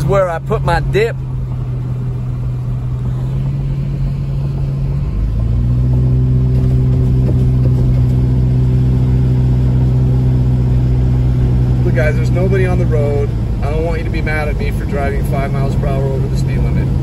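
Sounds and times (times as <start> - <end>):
car engine drone: 0.0 - 17.0
tyre noise on wet road: 0.0 - 17.0.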